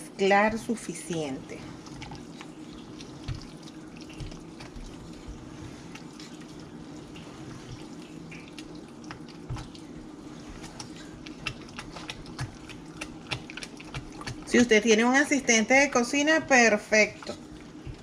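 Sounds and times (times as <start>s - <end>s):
steady low hum: 0.0s - 18.0s
spatula stirring wet batter: 0.4s - 18.0s.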